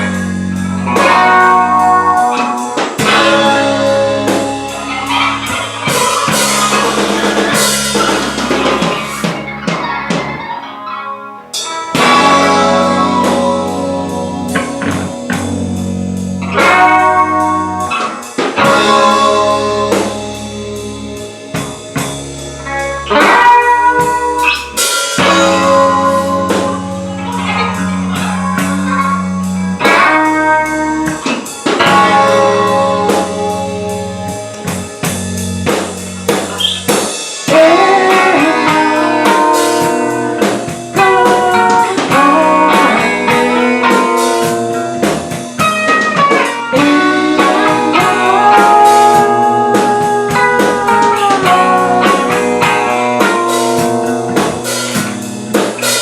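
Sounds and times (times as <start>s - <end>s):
drum kit: 0.0s - 10.8s, 11.4s - 56.0s
guitar: 0.0s - 56.0s.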